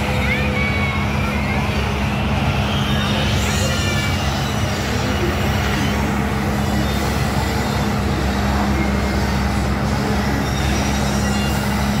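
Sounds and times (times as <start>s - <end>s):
carousel ride machinery drone: 0.0s - 12.0s.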